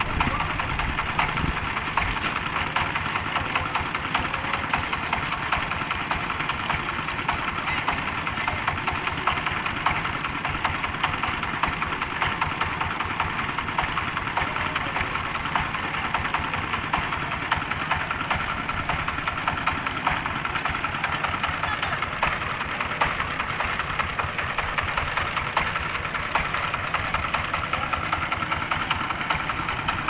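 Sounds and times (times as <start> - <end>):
rapid knocking rattle: 0.0 - 30.0
threshing machine running: 0.0 - 30.0.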